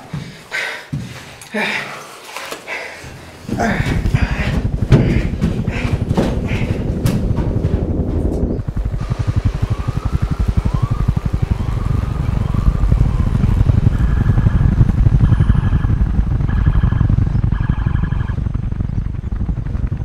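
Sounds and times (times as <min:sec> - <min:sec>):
helicopter rotor thumping: 0:03.2 - 0:20.0
pulsed tone: 0:03.6 - 0:19.6.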